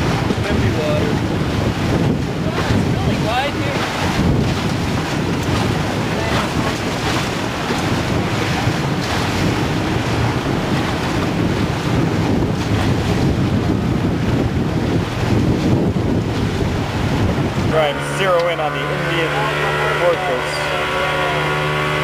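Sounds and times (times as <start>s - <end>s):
choppy water slapping raft: 0.0s - 22.0s
wind buffeting microphone: 0.0s - 22.0s.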